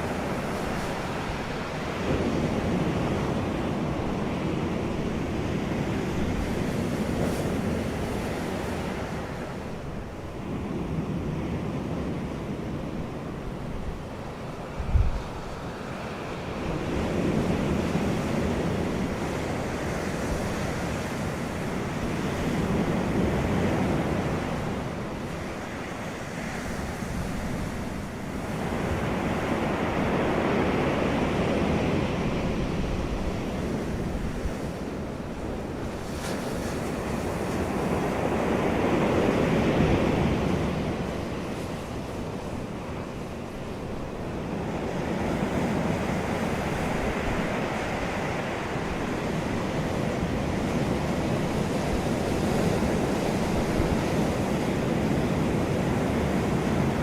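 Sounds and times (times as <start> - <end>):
ocean surf washing ashore: 0.0 - 57.0.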